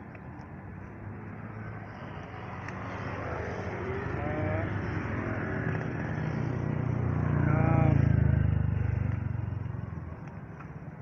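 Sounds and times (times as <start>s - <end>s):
passing vehicle engine: 0.8s - 11.0s.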